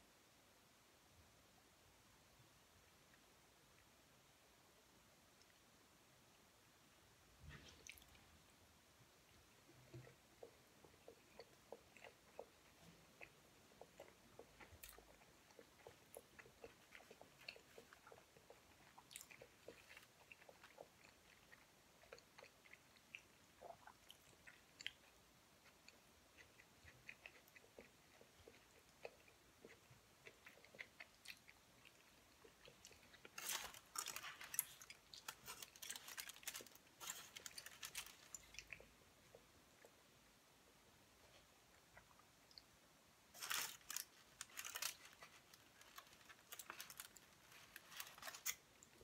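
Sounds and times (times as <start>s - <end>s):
faint chewing: 7.4s - 8.4s, 9.3s - 40.2s, 41.2s - 49.0s.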